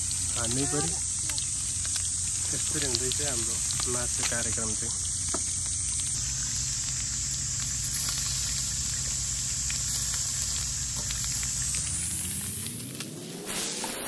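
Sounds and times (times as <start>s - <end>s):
meat sizzling: 0.0s - 14.0s.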